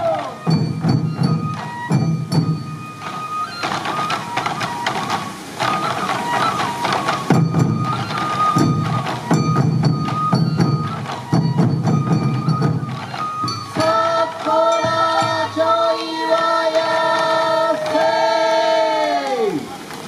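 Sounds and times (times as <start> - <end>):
taiko drums beating: 0.0 - 19.6
bamboo flute melody: 0.0 - 20.0.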